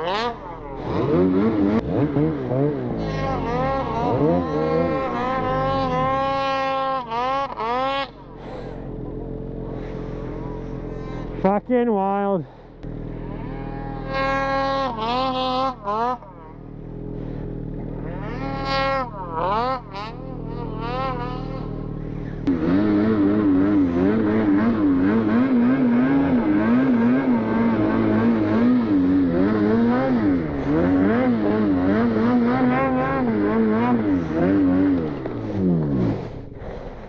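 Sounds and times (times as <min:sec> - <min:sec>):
close snowmobile engine revving: 0:00.0 - 0:37.0
distant snowmobile engine revving: 0:00.0 - 0:37.0.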